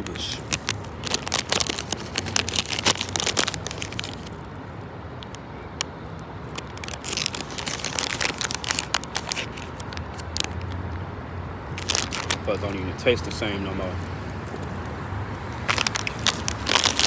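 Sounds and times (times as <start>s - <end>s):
packet crinkling: 0.0s - 4.6s, 6.4s - 10.8s, 11.7s - 17.0s.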